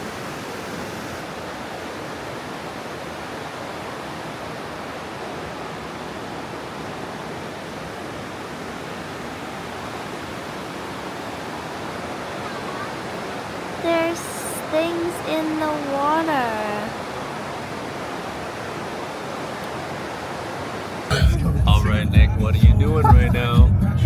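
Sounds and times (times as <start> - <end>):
waterfall rushing: 0.0 - 21.3.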